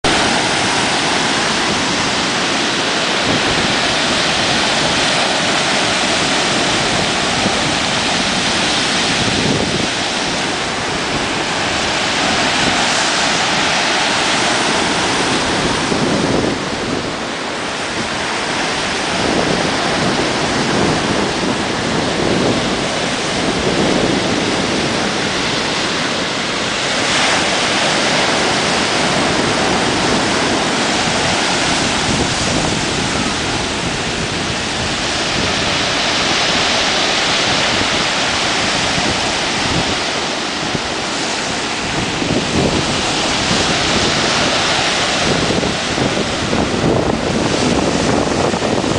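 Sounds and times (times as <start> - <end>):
sea surf on pebbly shore: 0.0 - 48.9.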